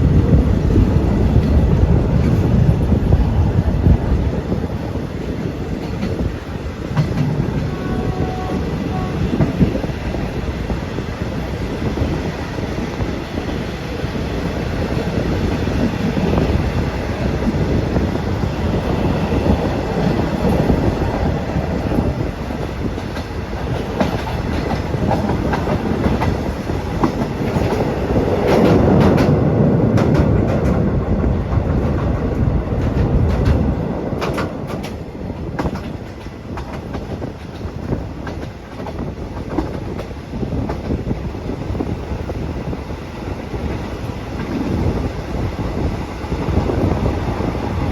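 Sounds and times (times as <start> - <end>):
train rumble: 0.0 - 47.9
train wheels clickety-clack: 0.0 - 47.9.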